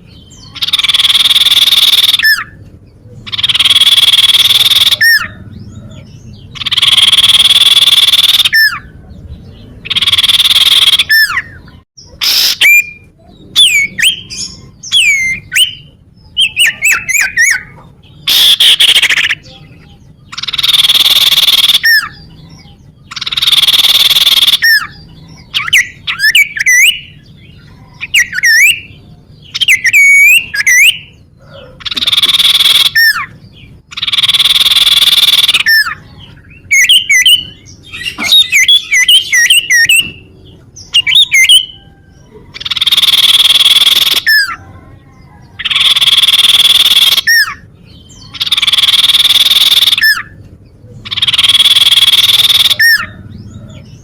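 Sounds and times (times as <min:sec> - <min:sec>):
harsh buzzy bird phrases: 0:00.0 - 0:41.8, 0:42.4 - 0:54.0.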